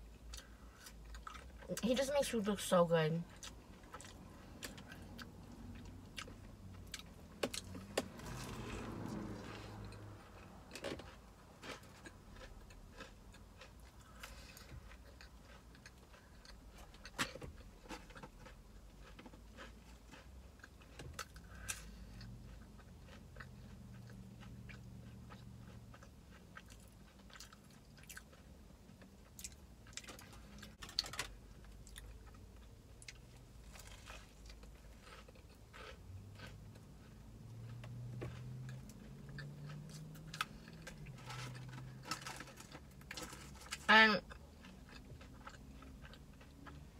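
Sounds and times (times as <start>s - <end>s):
person chewing crispy food: 0.0s - 1.9s, 3.3s - 46.9s.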